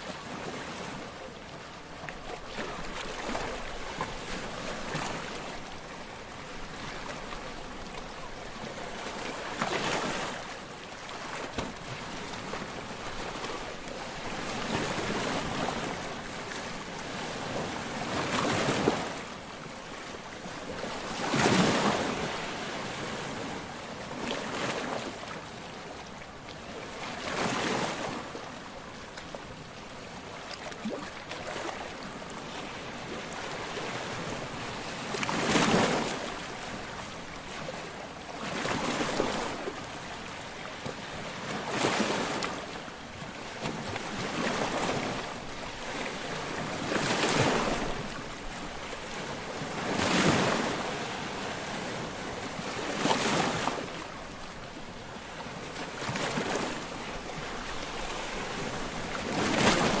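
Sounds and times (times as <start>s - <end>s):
surf washing onto shore: 1.8s - 26.1s, 30.5s - 60.0s.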